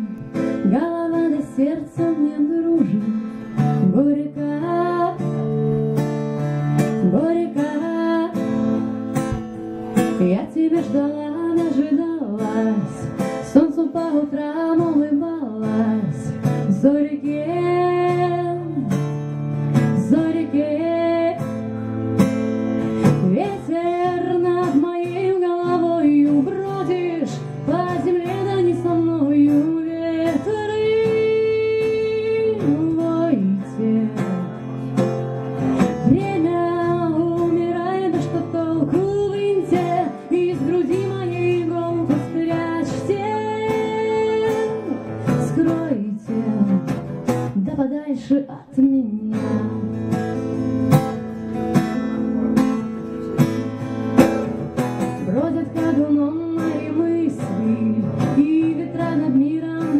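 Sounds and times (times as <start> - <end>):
woman singing: 0.0 - 51.2, 55.0 - 59.9
acoustic guitar strumming: 0.0 - 59.9.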